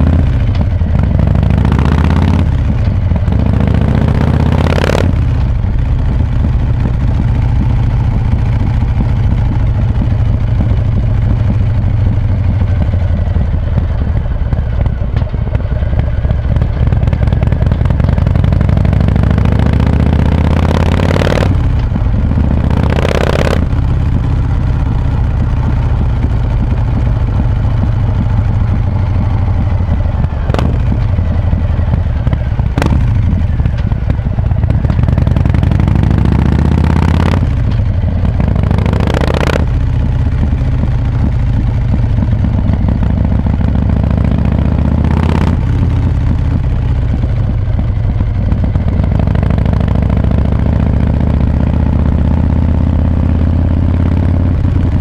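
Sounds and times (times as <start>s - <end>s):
motorcycle engine under way: 0.0s - 55.0s.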